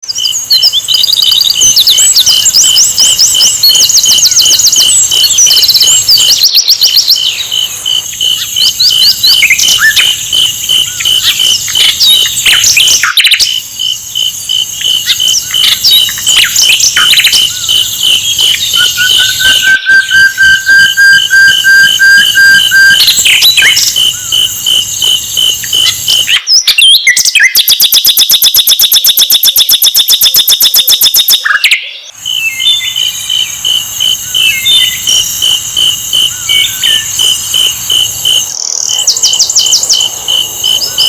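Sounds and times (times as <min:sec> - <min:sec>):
flycatcher chirps and trills: 0:00.0 - 0:41.0
pulsing insect-like tone: 0:00.1 - 0:26.9, 0:32.1 - 0:41.0.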